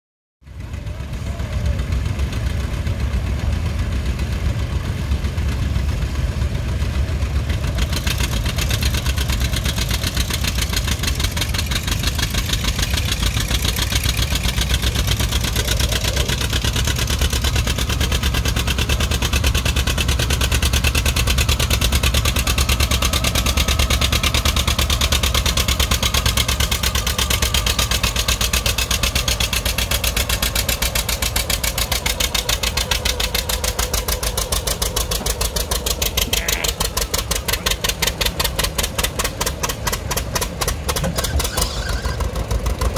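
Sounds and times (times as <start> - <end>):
tractor engine under load: 0.4 - 42.9.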